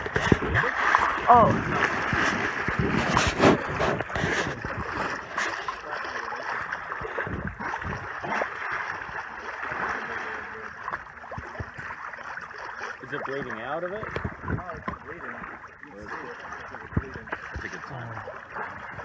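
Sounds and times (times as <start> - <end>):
sharp splashes: 0.0 - 19.0
water rushing against boat hull: 0.0 - 19.0.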